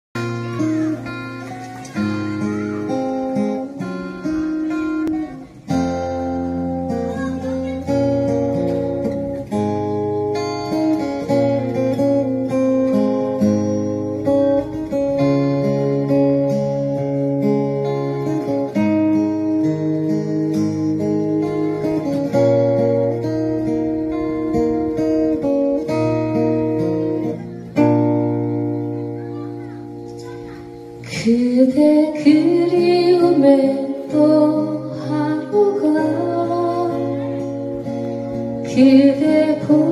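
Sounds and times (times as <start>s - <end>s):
acoustic guitars playing: 0.2s - 39.9s.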